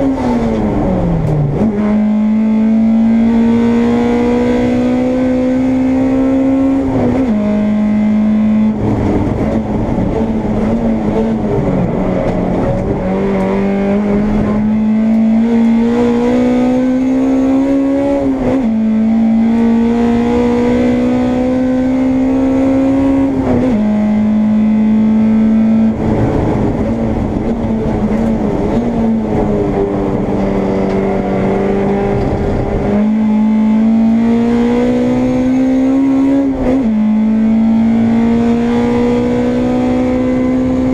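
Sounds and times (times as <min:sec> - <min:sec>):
race car engine: 0:00.0 - 0:40.9.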